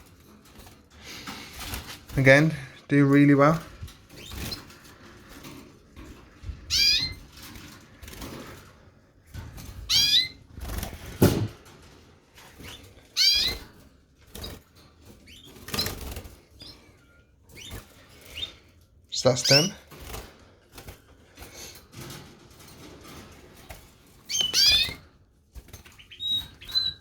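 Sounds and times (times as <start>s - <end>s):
canary chirping: 0.0s - 8.6s, 9.6s - 11.2s, 12.5s - 20.2s, 21.9s - 27.0s.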